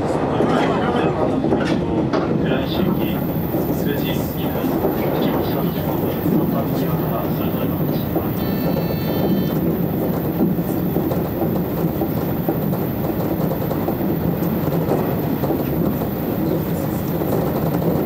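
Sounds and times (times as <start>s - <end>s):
electric train running on rails: 0.0s - 18.0s.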